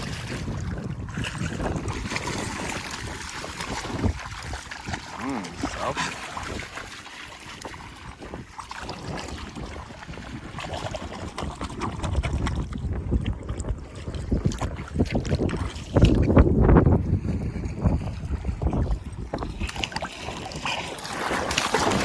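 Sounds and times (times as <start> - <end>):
water sloshing and splashing: 0.0 - 22.0
wind buffeting microphone: 0.0 - 22.0.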